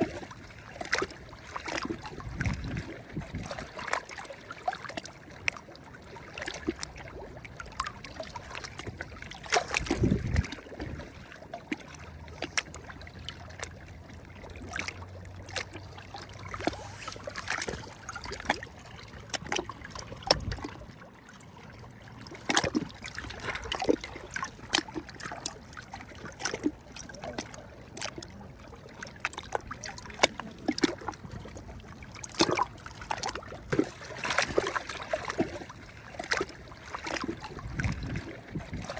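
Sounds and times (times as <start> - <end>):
small waves lapping at shore: 0.0 - 38.9.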